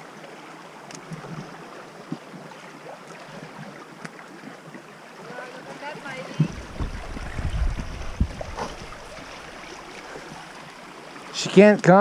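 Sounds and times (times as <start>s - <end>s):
water rushing in creek: 0.0s - 12.0s.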